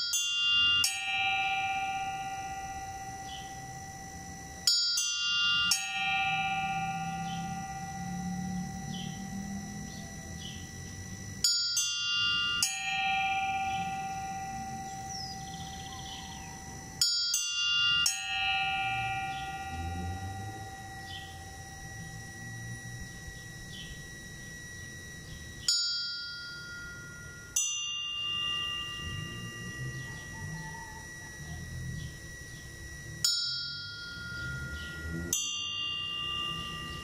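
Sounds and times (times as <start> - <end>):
bells tolling: 0.0 - 37.0.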